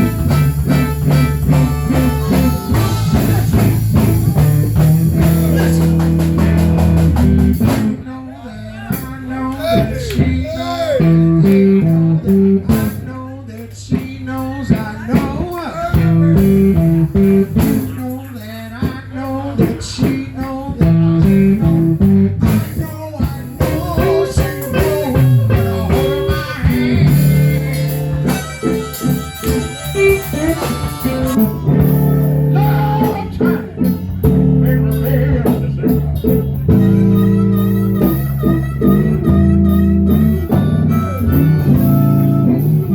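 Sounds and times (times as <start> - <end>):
electric guitar: 0.0 - 8.2, 8.9 - 42.9
electric blues band: 0.0 - 42.9.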